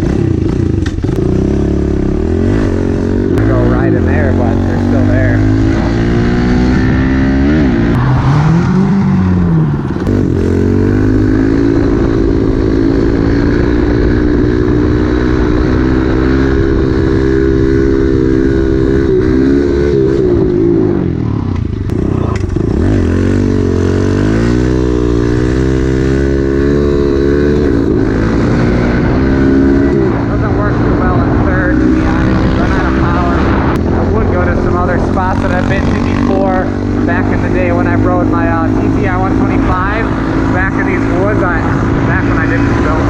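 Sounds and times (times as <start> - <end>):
single-cylinder engine running: 0.0 - 43.0.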